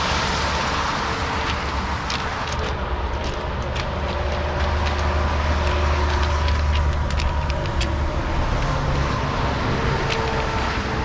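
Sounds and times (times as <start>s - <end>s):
road traffic rumble: 0.0s - 11.0s
footsteps on railway ballast: 0.3s - 11.0s.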